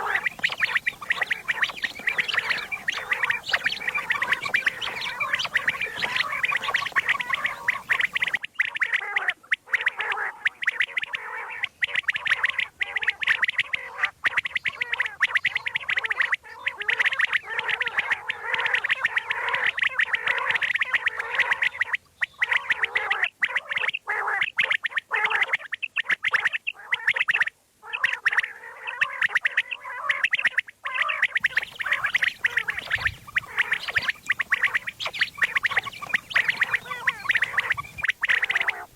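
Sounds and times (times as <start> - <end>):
quail chattering calls: 0.0 - 38.9.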